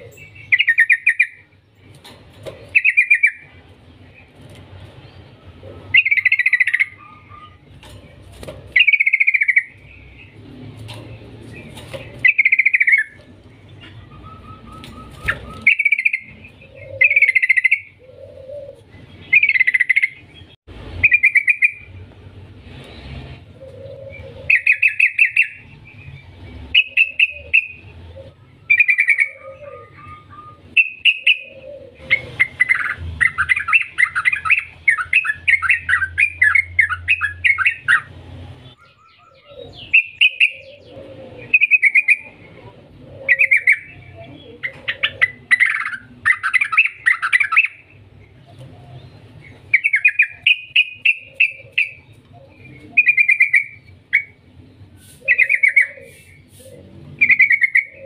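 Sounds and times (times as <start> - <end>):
bulbul singing: 0.0 - 22.1, 23.6 - 58.0.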